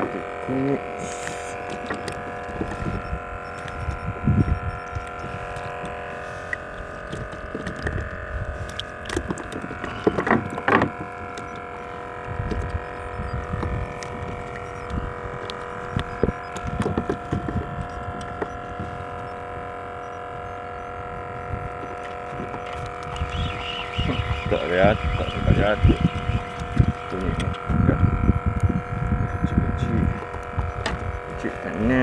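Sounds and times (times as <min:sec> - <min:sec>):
steady multi-tone hum: 0:00.0 - 0:32.0.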